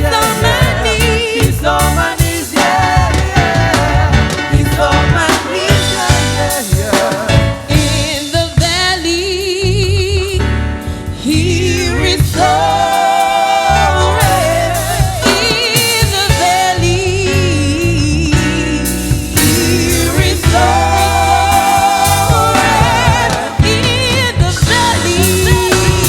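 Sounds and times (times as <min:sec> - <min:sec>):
band with bass and drums: 0:00.0 - 0:26.0.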